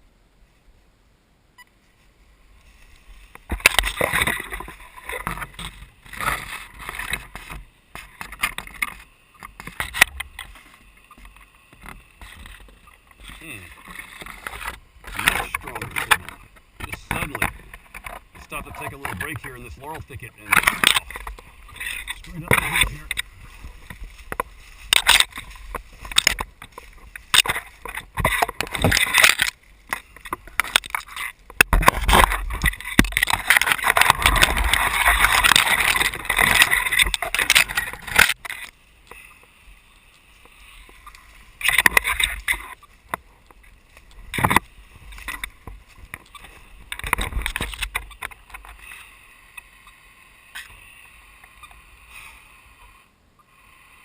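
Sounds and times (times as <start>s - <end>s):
branches and leaves rustling: 1.7s - 53.1s.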